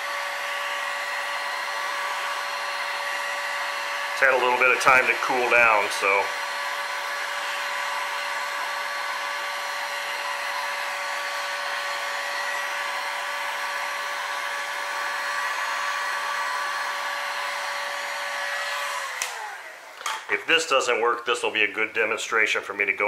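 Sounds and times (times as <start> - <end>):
heat gun running: 0.0 - 20.3.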